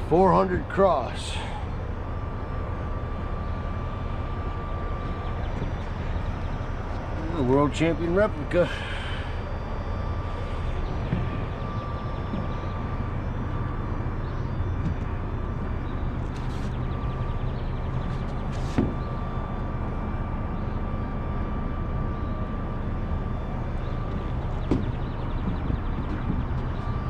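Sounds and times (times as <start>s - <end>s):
thin steady whine: 0.0s - 27.0s
vehicle engine drone: 0.0s - 27.0s.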